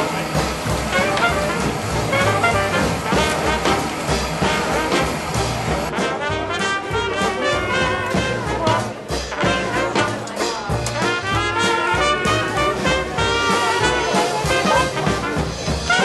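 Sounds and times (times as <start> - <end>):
jazz music with brass horns: 0.0 - 16.0.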